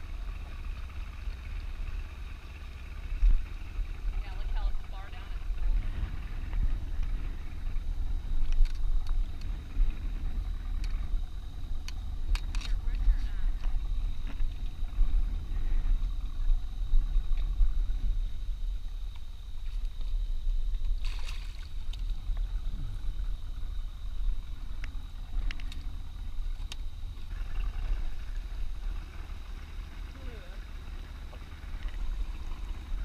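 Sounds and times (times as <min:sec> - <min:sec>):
boat engine low rumble: 0:00.0 - 0:33.0
faint high whine: 0:00.0 - 0:33.0.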